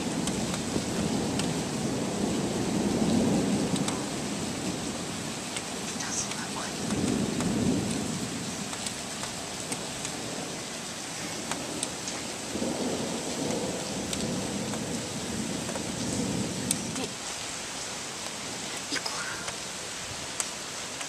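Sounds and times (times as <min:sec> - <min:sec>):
thunder rumbling: 0:00.0 - 0:17.1
heavy rain: 0:00.0 - 0:21.0
drips and patters: 0:03.0 - 0:21.0.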